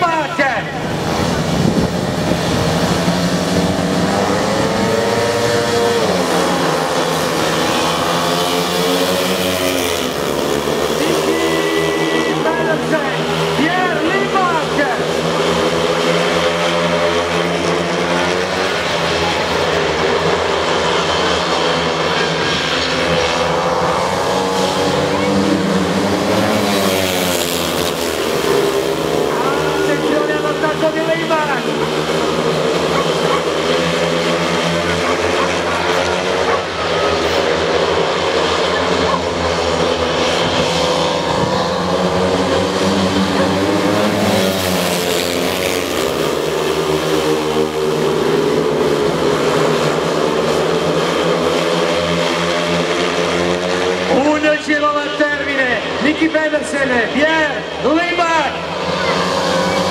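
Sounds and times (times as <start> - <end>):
racing motorcycle engines droning: 0.0 - 59.9.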